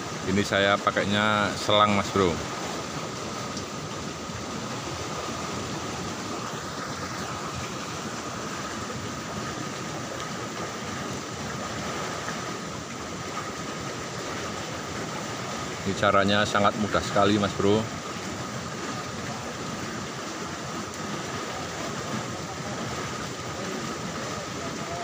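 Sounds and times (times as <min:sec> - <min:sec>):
water rushing in channel: 0:00.0 - 0:25.0.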